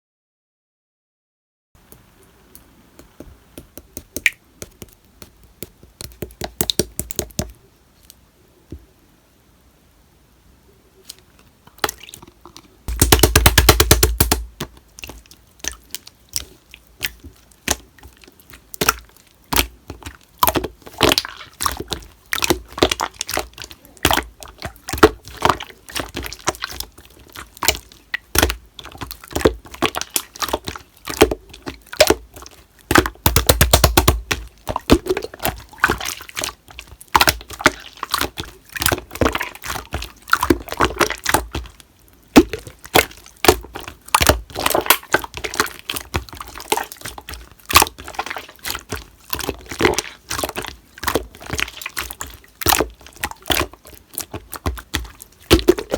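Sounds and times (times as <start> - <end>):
slime crackling: 3.0 - 7.6, 12.9 - 55.9
slime squished clicking and popping: 3.0 - 7.6, 12.9 - 41.7, 42.4 - 55.9.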